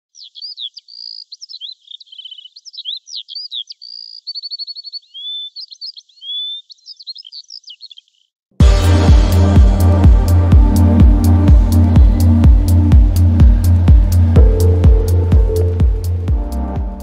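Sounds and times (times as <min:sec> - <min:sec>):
songbird singing: 0:00.0 - 0:08.4, 0:11.6 - 0:17.0.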